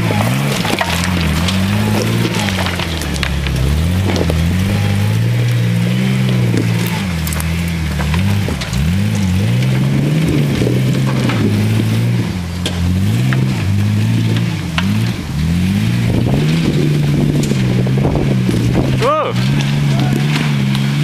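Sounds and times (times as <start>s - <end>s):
engine revving under load: 0.0s - 21.0s.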